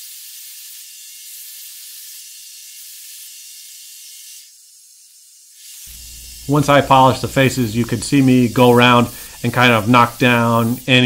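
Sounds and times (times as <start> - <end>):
belt grinder polishing hiss: 0.0 - 11.0.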